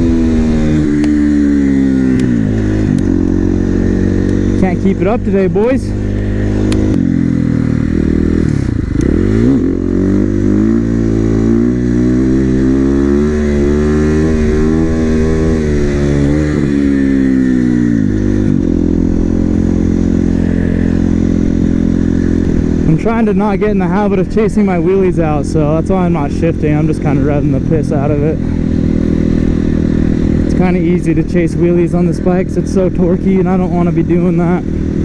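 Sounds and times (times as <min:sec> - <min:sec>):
motorcycle engine revving hard: 0:00.0 - 0:35.0.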